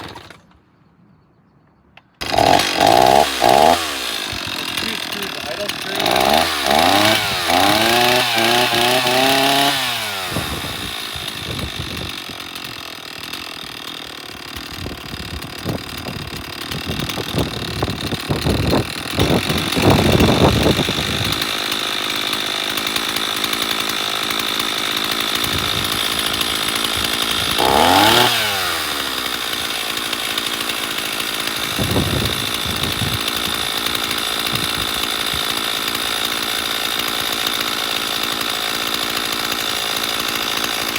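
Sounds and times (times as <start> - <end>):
chainsaw engine revving and idling: 0.0 - 0.5, 2.2 - 40.9.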